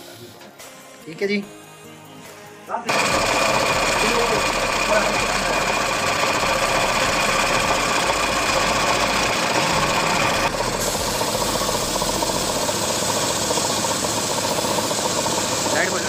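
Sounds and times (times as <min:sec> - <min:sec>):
workshop machinery running: 0:02.9 - 0:16.0.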